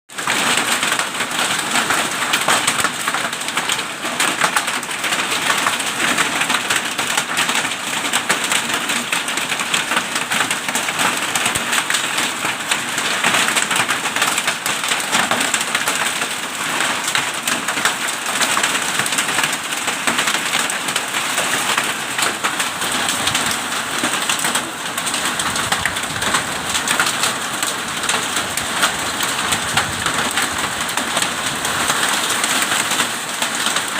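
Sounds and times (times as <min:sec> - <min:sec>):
hail and heavy rain pelting: 0:00.1 - 0:33.9.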